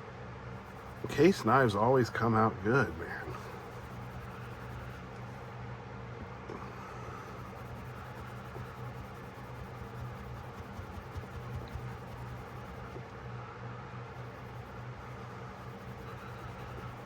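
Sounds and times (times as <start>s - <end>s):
scratchy rubbing on pocketknife: 0.6s - 1.8s, 2.6s - 5.6s, 6.5s - 13.2s, 14.2s - 17.0s
low hum: 0.6s - 17.0s.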